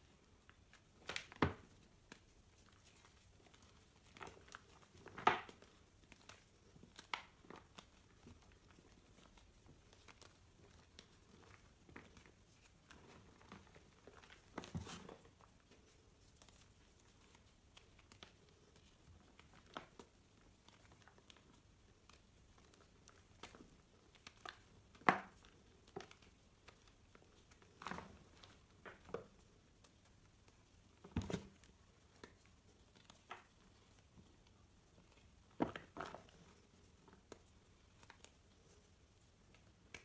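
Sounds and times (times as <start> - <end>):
hands crushing chalk: 0.4 - 40.0.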